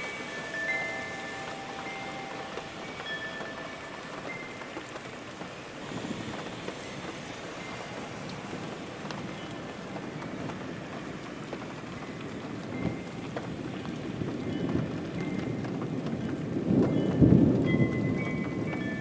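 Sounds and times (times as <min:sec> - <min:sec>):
rain beating on a window: 0:00.0 - 0:19.0
low rumble of thunder: 0:01.2 - 0:19.0.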